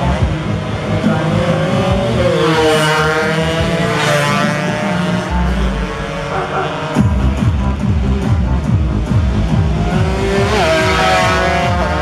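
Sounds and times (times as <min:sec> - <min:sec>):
racing motorcycles passing at high revs: 0:00.0 - 0:12.0.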